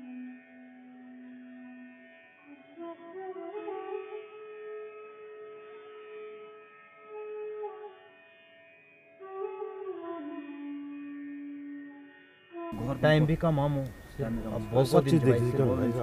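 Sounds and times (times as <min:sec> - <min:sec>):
slow instrumental music: 0:00.0 - 0:16.0.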